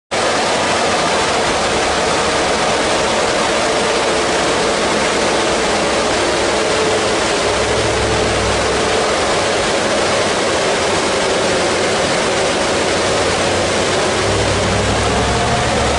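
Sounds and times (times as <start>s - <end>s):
car running on dyno rollers: 0.2s - 15.9s.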